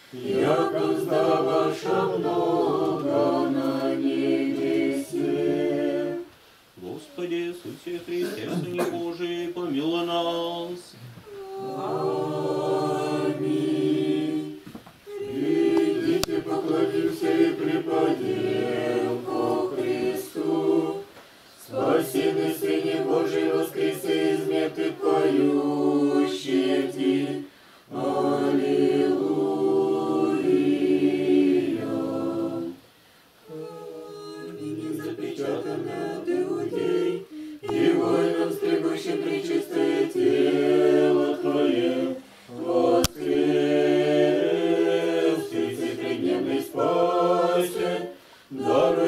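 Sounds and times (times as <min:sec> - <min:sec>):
voices singing unaccompanied chant: 0:00.0 - 0:49.0.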